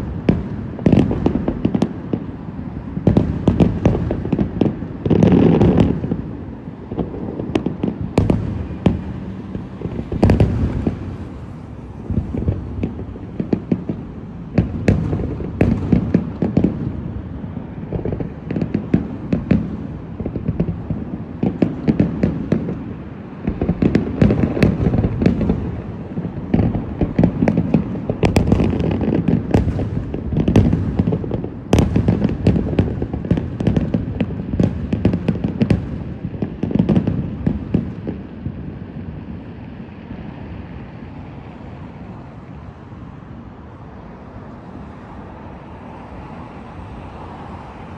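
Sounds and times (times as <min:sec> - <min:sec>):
fireworks sharp bangs and crackles: 0:00.0 - 0:46.0.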